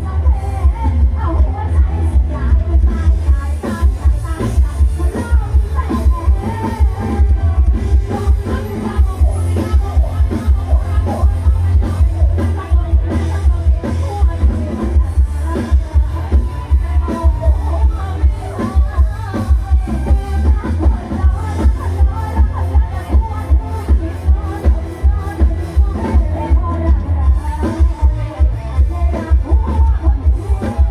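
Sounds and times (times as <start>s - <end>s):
female vocalists singing: 0.0s - 30.9s
live band dance music: 0.0s - 30.9s.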